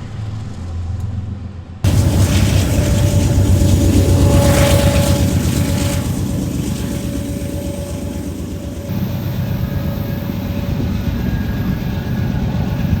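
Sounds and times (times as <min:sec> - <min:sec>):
freight train rumbling: 0:01.8 - 0:13.0
faint steady whine: 0:01.9 - 0:13.0.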